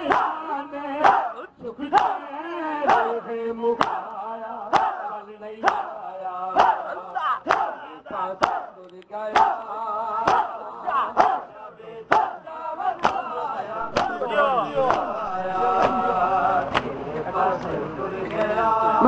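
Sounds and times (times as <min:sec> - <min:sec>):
men striking chests in unison: 0:00.0 - 0:16.1
men chanting and crying out: 0:00.0 - 0:19.0.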